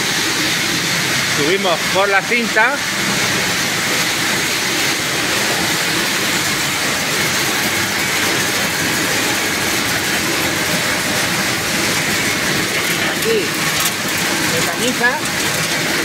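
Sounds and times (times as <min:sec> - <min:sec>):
conveyor machinery and moving nuts: 0:00.0 - 0:16.0.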